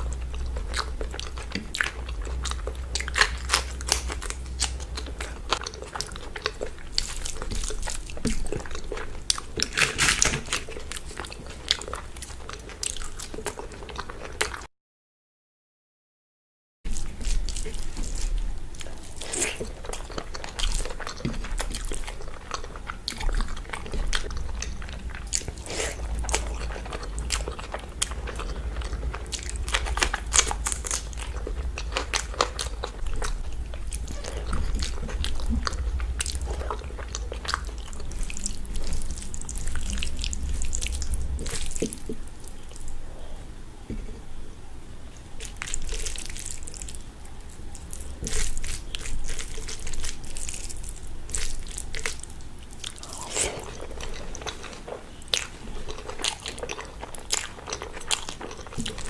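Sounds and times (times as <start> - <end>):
wet chewing with crunches: 0.0 - 14.7, 16.9 - 44.1, 45.1 - 59.0.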